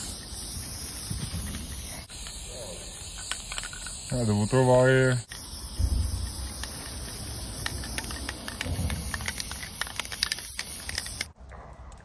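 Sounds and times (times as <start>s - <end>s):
spray paint can hissing: 0.0s - 11.4s.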